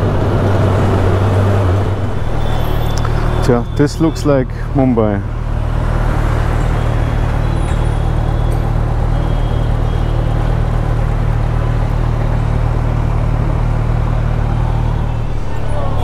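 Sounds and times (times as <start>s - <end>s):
city traffic: 0.0s - 16.0s.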